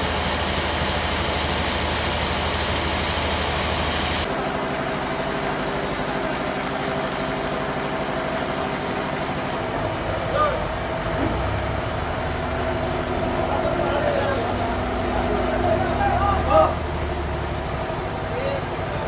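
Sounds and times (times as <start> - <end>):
bandsaw sawmill running: 0.0 - 19.0.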